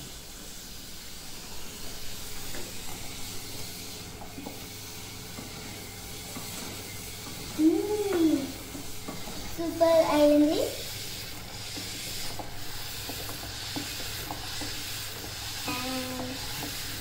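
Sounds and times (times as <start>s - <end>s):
butter sizzling in saucepan: 0.0s - 17.0s.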